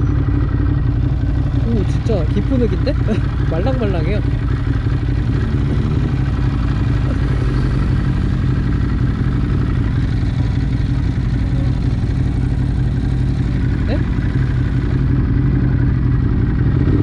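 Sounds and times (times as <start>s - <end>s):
low engine drone: 0.0s - 17.0s
road noise: 0.0s - 17.0s.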